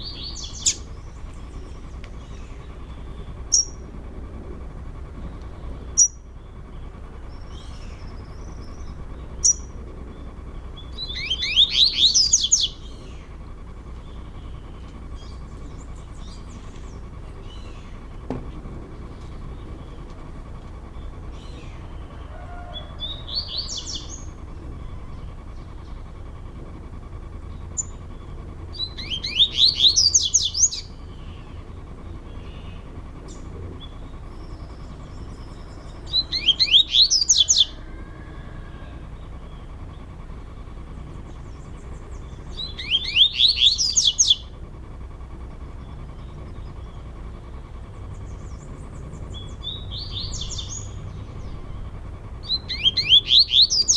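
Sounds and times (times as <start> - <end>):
birds singing whistled notes: 0.0 - 3.9, 5.4 - 18.2, 18.9 - 26.2, 27.4 - 40.2, 41.0 - 44.6, 45.6 - 53.9.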